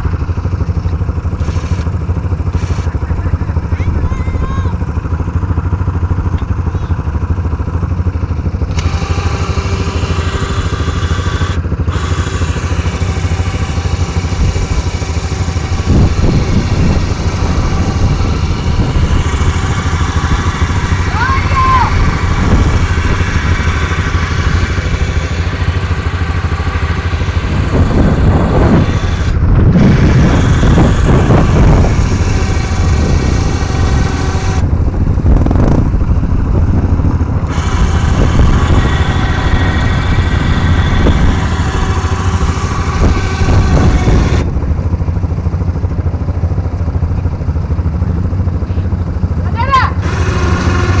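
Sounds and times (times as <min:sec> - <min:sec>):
quad bike engines running: 0:00.0 - 0:51.0.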